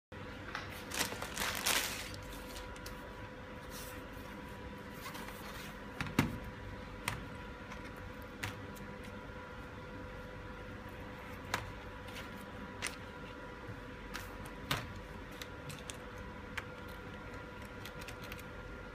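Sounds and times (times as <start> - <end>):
faint steady hum: 0.2 - 18.9.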